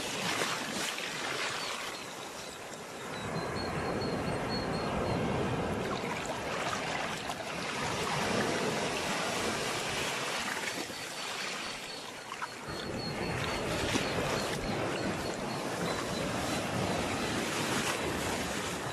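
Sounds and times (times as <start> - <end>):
sea waves washing onto shore: 0.0 - 18.9.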